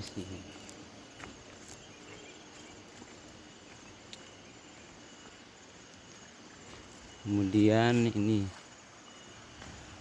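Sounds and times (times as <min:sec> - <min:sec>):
faint insects chirring: 0:00.0 - 0:10.0.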